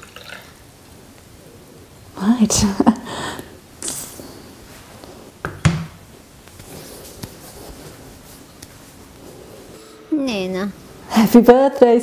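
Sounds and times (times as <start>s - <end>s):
faint room noise: 0.0s - 12.0s.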